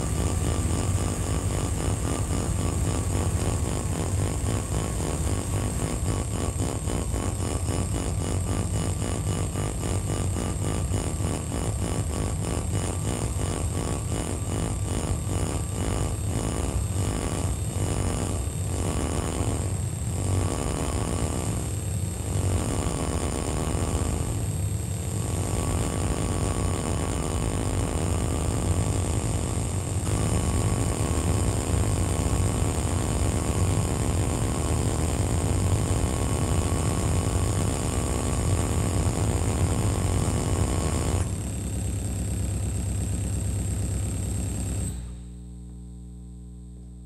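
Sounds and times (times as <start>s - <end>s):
electronic noise music drone: 0.0s - 47.0s.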